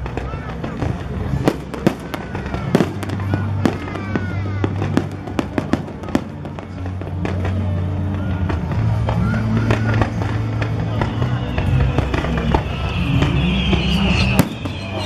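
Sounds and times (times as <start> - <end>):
fireworks bangs and crackles: 0.0 - 15.0
whistling fireworks: 0.0 - 15.0.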